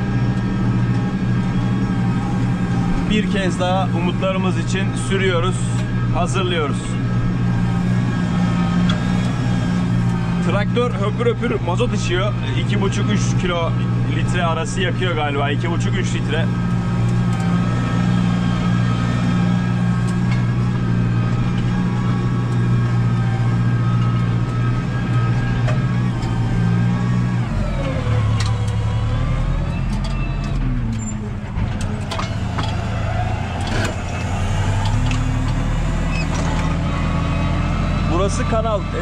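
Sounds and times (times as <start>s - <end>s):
tractor diesel engine under load: 0.0s - 39.0s.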